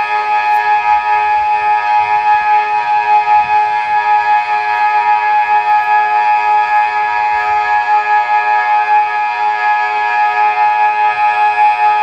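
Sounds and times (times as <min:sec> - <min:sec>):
civil defence siren steady chord: 0:00.0 - 0:12.0.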